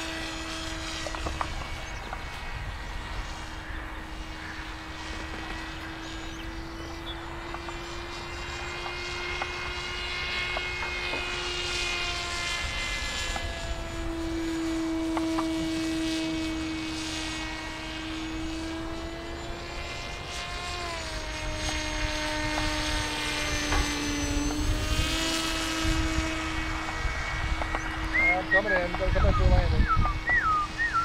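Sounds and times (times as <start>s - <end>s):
model plane motor whine: 0.0s - 31.0s.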